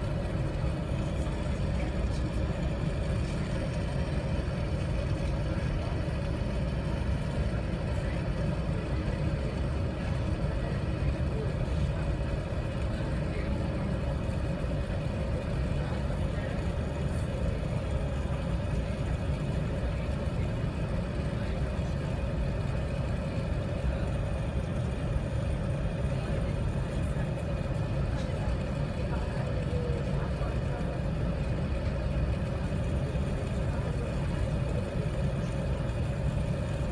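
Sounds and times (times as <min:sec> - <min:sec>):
even cabin hum: 0:00.0 - 0:36.9
low engine and air rumble: 0:00.0 - 0:36.9.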